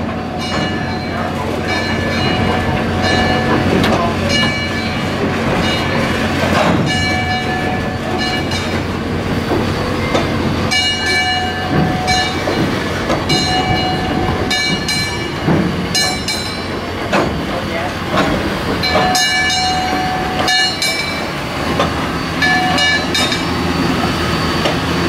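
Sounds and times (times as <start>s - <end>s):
train rumbling on rails: 0.0s - 25.0s
wheels squealing on rails: 0.0s - 25.0s
metal clanks: 0.4s - 23.6s.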